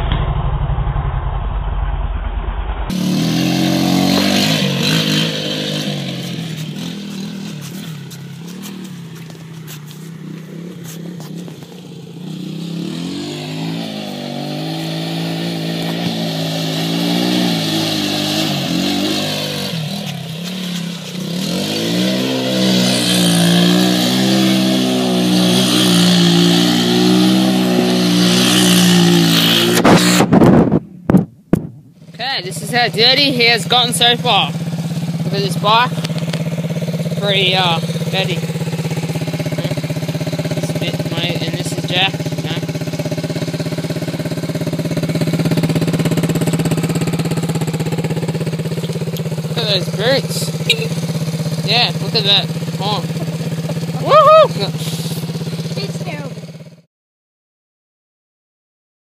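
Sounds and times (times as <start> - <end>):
quad bike engine revving: 2.9 - 30.7, 32.0 - 56.9.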